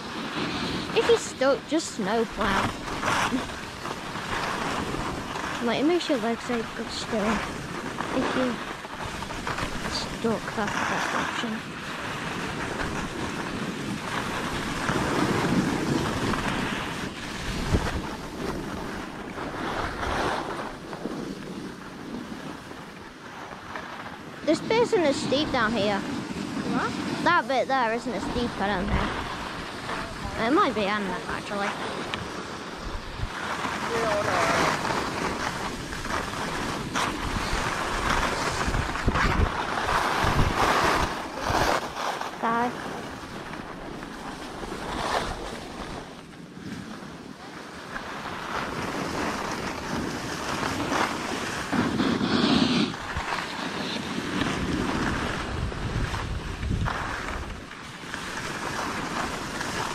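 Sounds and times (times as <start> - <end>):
skis scraping over snow: 0.0 - 59.9
wind on microphone: 0.0 - 59.9.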